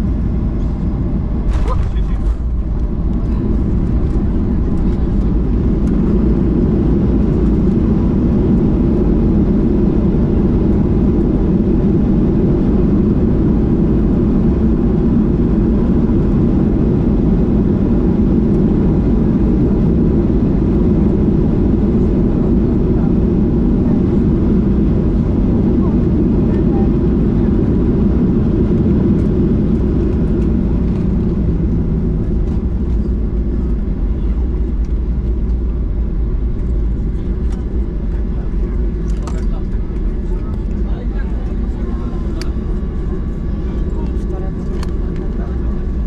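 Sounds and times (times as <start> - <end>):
airliner cabin engine rumble: 0.0 - 46.0.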